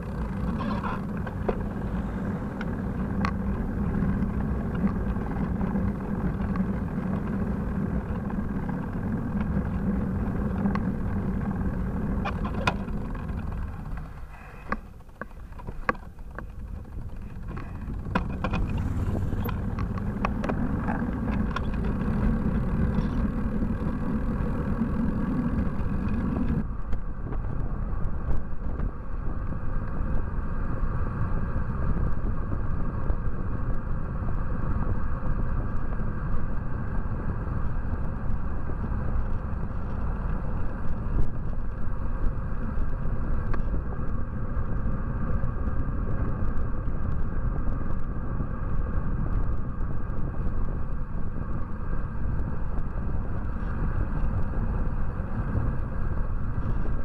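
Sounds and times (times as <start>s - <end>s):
low hum: 0.0s - 57.0s
wind buffeting microphone: 0.0s - 57.0s.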